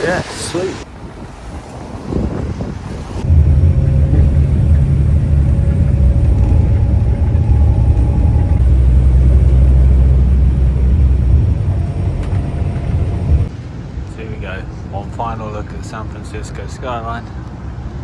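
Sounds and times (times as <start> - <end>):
moving bus rumble: 0.0 - 18.0.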